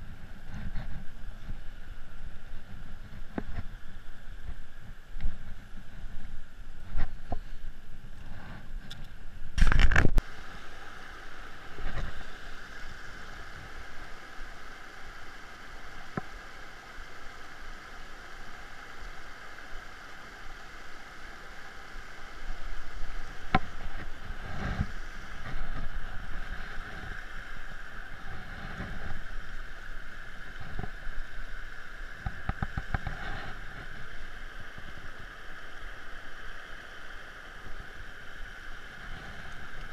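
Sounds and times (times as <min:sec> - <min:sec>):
river rushing over stones: 0:00.0 - 0:39.9.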